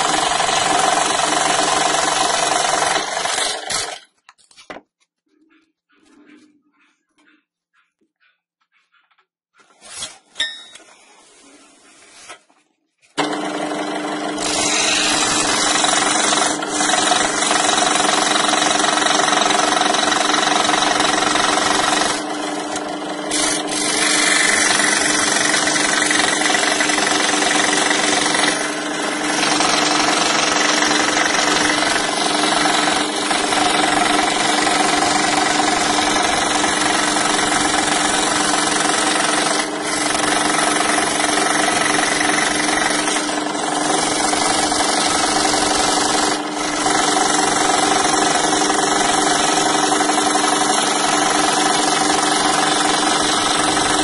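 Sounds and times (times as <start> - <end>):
scroll saw cutting plywood: 0.0 - 4.0, 11.4 - 54.0.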